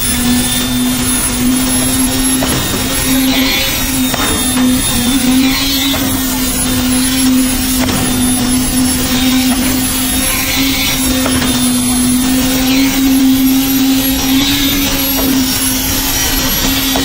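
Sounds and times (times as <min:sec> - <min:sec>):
concrete vibrator humming: 0:00.0 - 0:17.0.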